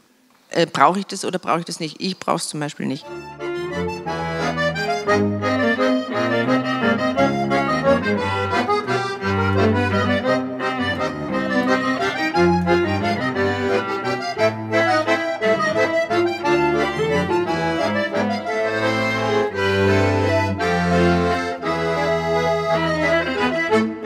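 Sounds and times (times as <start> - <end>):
accordion melody: 0.8 - 24.0.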